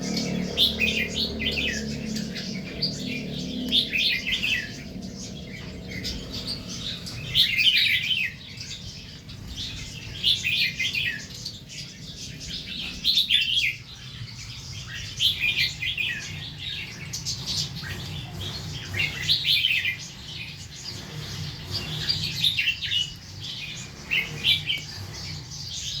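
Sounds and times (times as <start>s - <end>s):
bird singing warbled phrases: 0.0s - 26.0s.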